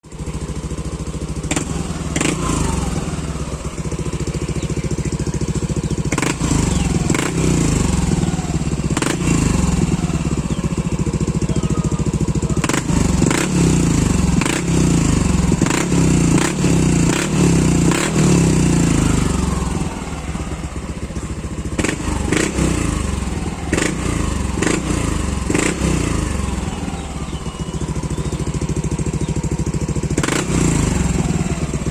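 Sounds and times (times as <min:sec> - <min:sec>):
scooter engine revving: 0:00.0 - 0:31.9.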